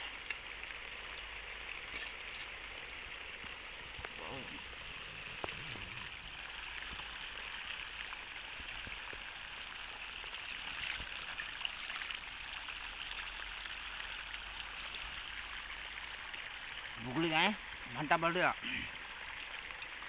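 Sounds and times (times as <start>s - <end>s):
steady watery hiss: 0.0s - 20.0s
water dripping: 0.0s - 20.0s.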